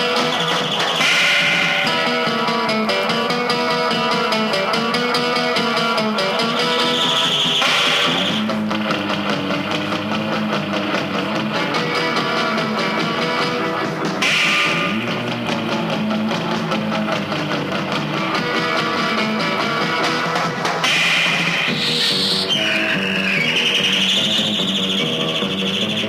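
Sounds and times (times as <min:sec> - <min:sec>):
surf rock with twangy guitar: 0:00.0 - 0:26.0.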